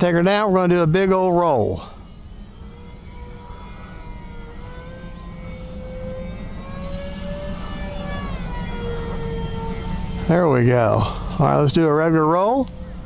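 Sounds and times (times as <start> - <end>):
electric motors whining in flight: 0.0 - 13.0.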